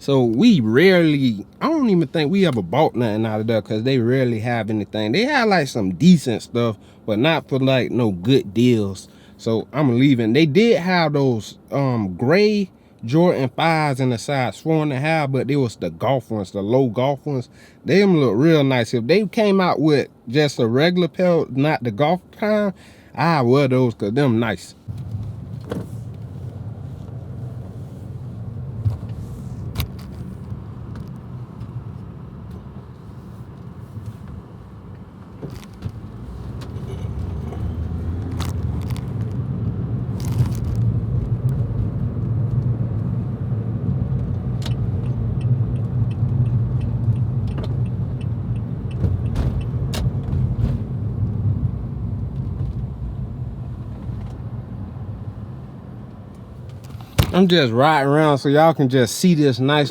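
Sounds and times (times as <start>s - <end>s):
engine and road rumble: 0.0s - 59.9s.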